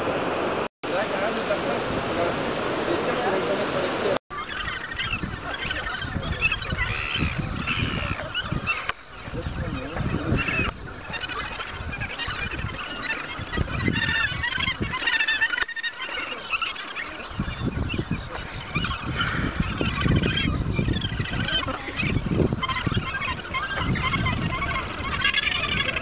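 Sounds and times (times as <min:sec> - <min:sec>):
seabird colony calling: 0:02.9 - 0:26.0.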